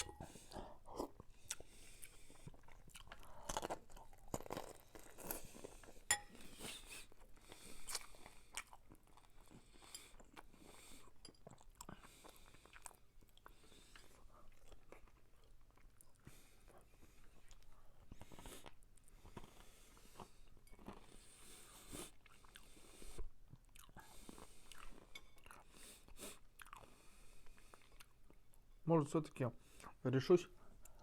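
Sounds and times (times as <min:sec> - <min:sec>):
close chewing noodles: 0:00.0 - 0:28.6.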